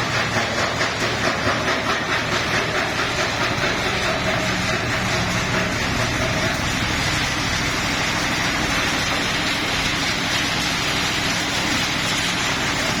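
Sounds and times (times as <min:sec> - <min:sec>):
stone crusher machine running: 0:00.0 - 0:13.0.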